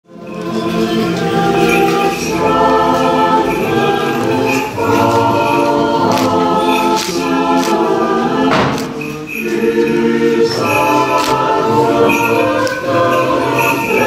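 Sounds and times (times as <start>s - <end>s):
choir singing a cappella hymn: 0.1s - 14.0s.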